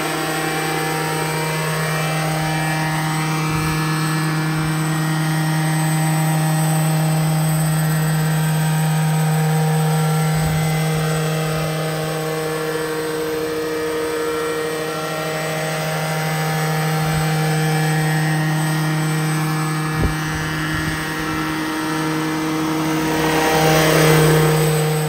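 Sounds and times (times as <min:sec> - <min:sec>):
model helicopter engine and rotor drone: 0:00.0 - 0:25.0.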